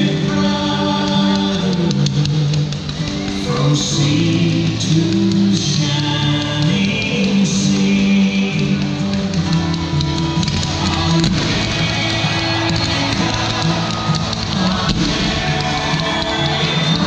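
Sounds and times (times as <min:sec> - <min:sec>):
bass line: 0:00.0 - 0:17.0
guitar music with held notes: 0:00.0 - 0:17.0.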